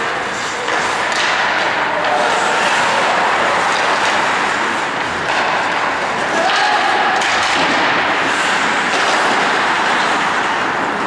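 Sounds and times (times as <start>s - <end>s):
hockey sticks and puck knocking: 0.0s - 11.0s
skates cutting ice: 0.0s - 11.0s.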